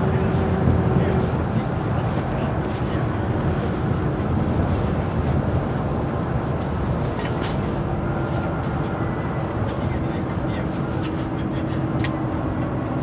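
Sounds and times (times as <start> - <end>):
low engine drone: 0.0 - 13.0
road rumble: 0.0 - 13.0.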